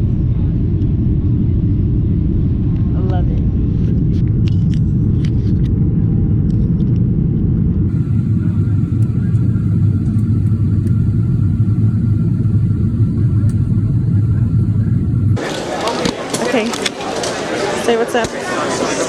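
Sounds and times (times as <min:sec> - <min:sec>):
vehicle interior rumble: 0:00.0 - 0:15.4.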